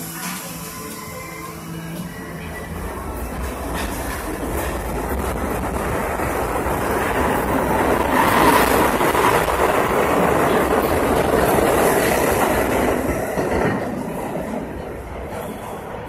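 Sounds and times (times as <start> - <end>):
subway train running on rails: 0.0 - 16.0.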